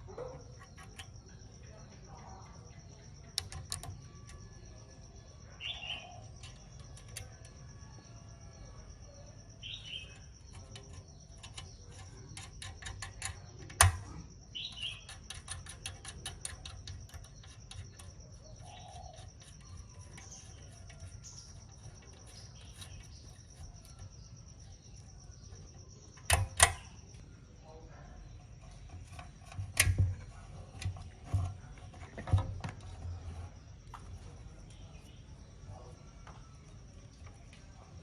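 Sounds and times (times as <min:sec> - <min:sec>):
bird chirping: 0:00.0 - 0:32.4
high insect drone: 0:00.0 - 0:38.0.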